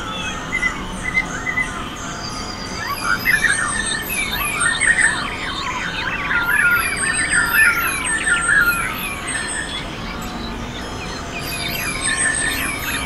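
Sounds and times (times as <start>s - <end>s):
chorus of birds calling: 0.0s - 13.0s.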